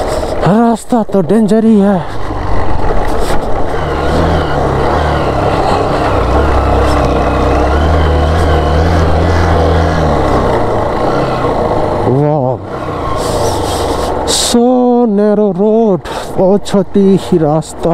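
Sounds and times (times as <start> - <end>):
motorcycle engine at low revs: 0.0 - 17.9.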